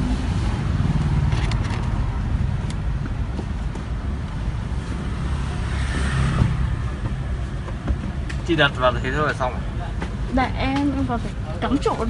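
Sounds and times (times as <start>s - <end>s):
car cabin rumble: 1.3s - 12.0s.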